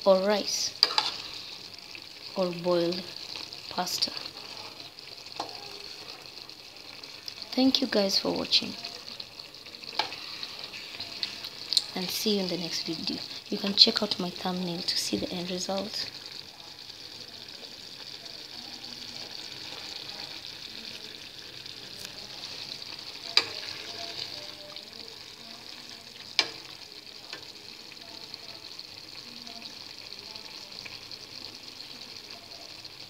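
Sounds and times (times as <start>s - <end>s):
stew sizzling in a pot: 0.0s - 33.0s.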